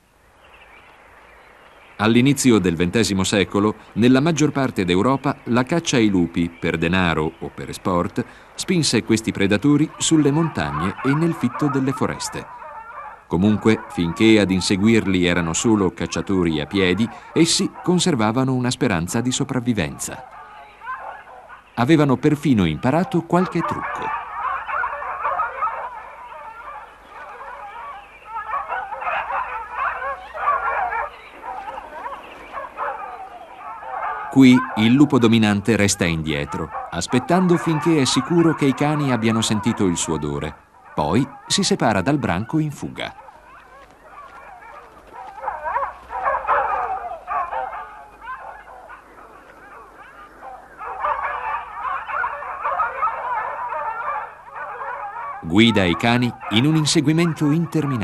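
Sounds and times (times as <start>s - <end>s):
hounds baying and yelping: 1.8s - 58.0s.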